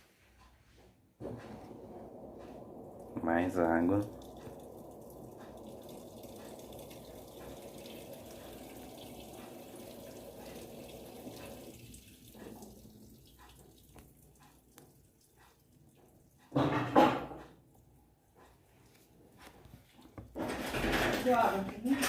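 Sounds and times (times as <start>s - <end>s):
water rushing into washing machine: 1.2s - 17.4s, 20.3s - 22.0s.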